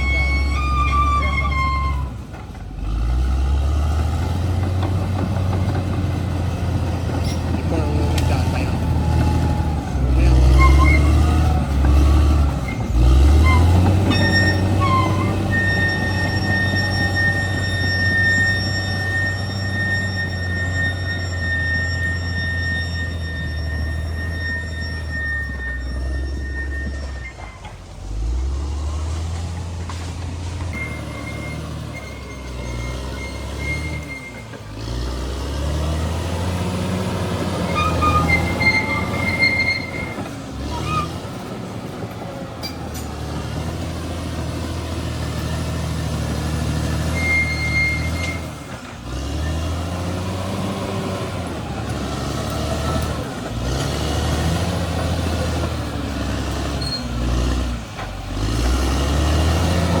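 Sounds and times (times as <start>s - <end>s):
bulldozer diesel engine working: 0.0s - 60.0s.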